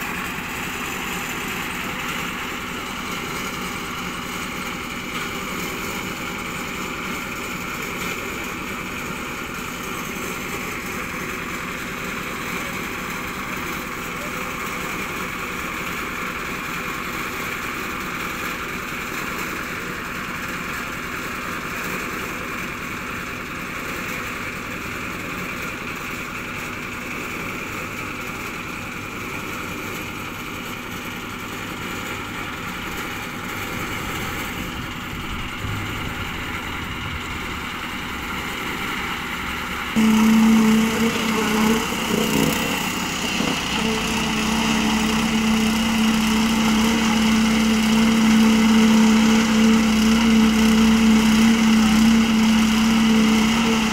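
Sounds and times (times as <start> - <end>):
small petrol engine running: 0.0 - 53.9.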